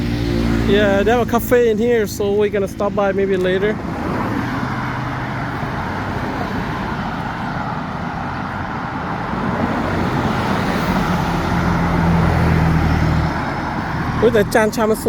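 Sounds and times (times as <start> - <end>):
street traffic: 0.0 - 15.0
vehicle engine drone: 0.0 - 15.0.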